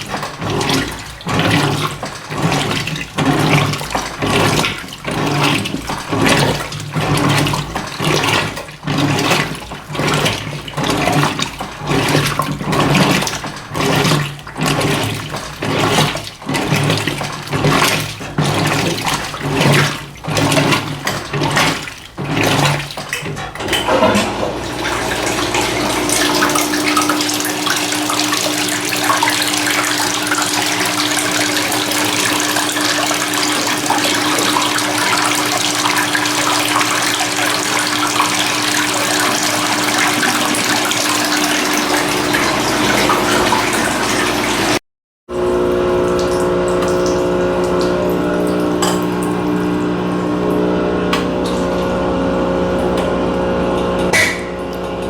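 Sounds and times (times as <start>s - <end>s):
rush of water: 0.0s - 52.0s
washing machine motor hum: 0.0s - 55.0s
washing machine water sloshing: 0.0s - 55.0s.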